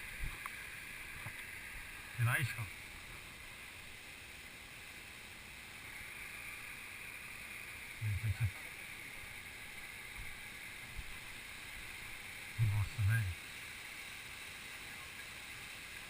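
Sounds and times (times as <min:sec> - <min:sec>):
distant waterfall rushing: 0:00.0 - 0:16.0.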